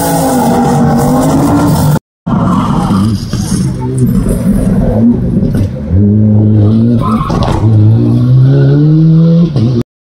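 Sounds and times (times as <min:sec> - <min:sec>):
rally car engine accelerating: 0:00.0 - 0:09.8.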